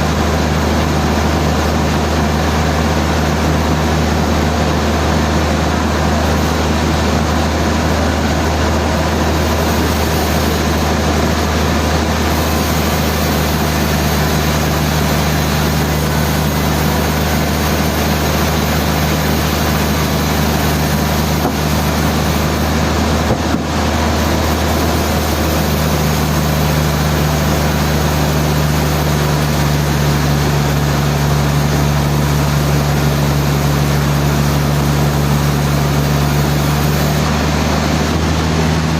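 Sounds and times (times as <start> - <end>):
sawmill machinery droning hum: 0.0 - 38.9.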